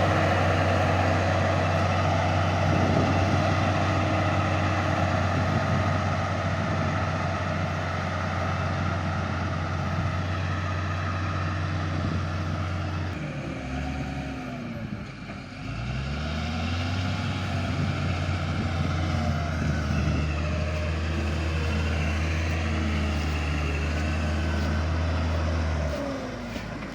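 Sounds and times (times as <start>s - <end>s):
bulldozer diesel engine: 0.0s - 26.9s.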